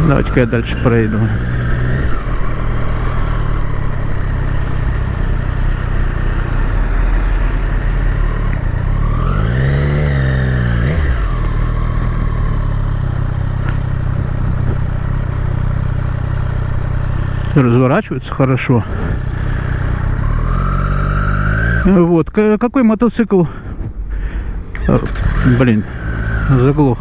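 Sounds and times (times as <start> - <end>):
motorcycle engine running: 0.0 - 22.0
wind and road noise: 0.0 - 27.0.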